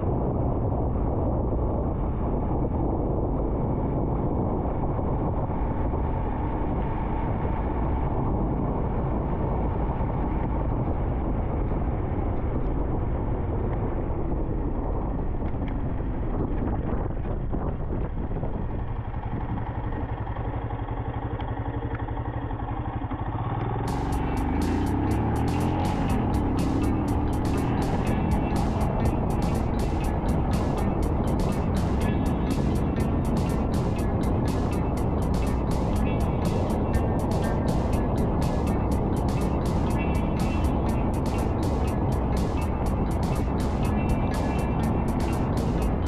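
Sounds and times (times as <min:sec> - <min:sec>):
wind noise: 0:00.0 - 0:20.2, 0:23.9 - 0:46.0
motorcycle engine running: 0:00.0 - 0:46.0.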